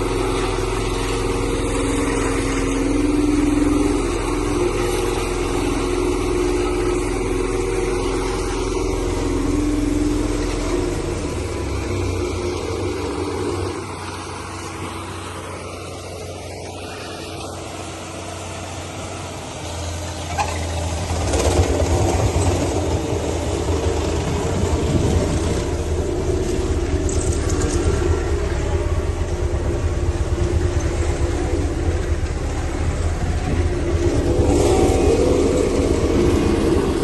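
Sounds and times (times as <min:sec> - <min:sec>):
road roller diesel engine rumbling: 0:00.0 - 0:37.0.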